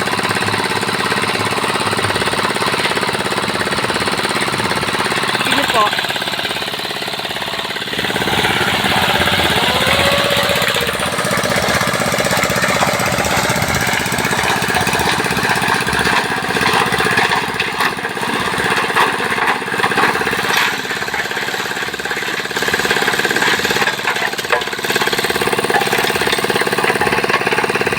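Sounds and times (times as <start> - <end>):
construction machine engine pounding: 0.0 - 27.9.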